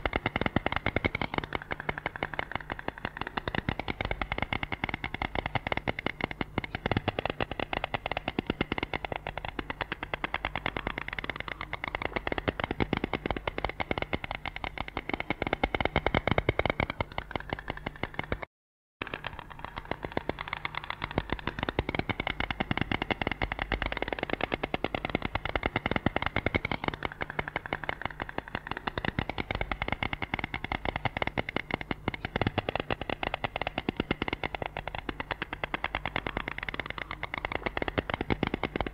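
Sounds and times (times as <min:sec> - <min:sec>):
stork bill-clattering: 0:00.0 - 0:18.4, 0:19.0 - 0:38.9.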